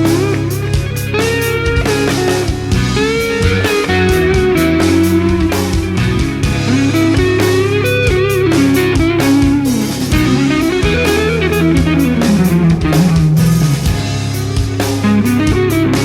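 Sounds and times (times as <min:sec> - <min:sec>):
bass and drums: 0:00.0 - 0:16.0
electric guitar lead lines: 0:00.0 - 0:16.0.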